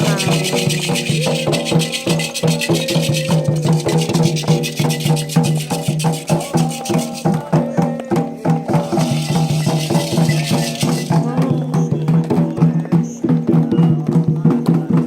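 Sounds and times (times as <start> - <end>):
fast percussion and rattles: 0.0 - 15.0.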